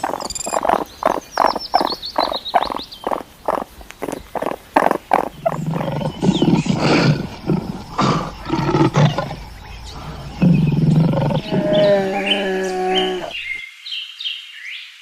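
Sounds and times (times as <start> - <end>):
large animal calling: 0.0 - 13.6.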